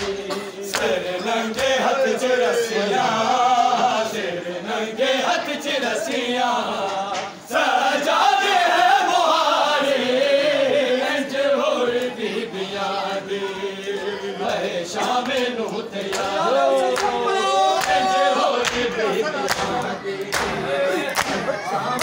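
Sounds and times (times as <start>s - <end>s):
men chanting a lament: 0.0s - 22.0s.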